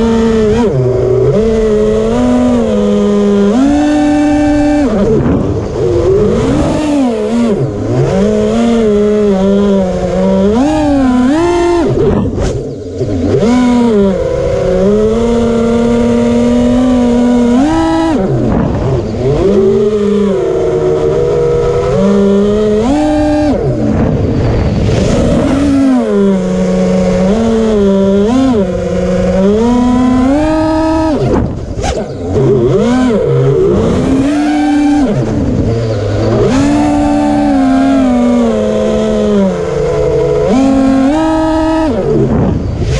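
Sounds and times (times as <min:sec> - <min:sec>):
drone motors whining: 0:00.0 - 0:42.9.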